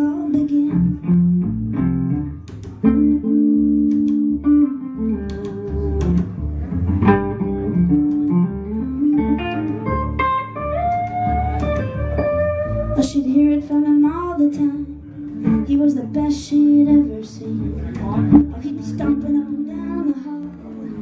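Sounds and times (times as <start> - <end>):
guitar picking melodic notes: 0.0 - 21.0
plucked upright bass: 0.0 - 21.0.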